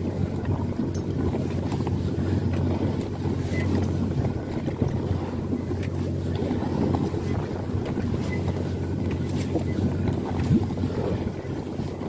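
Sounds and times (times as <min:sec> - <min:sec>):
boat engine humming: 0:00.0 - 0:12.0
sea water: 0:00.0 - 0:12.0
wind: 0:00.0 - 0:12.0.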